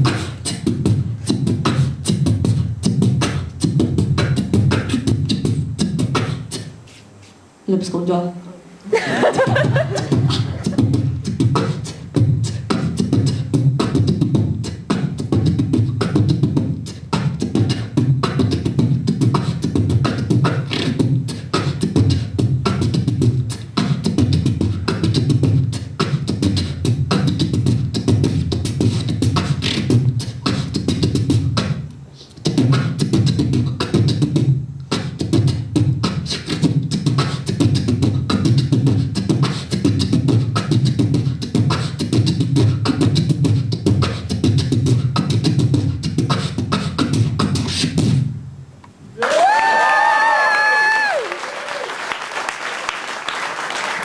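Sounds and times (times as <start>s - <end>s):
person beatboxing: 0.0s - 7.1s, 9.5s - 48.3s.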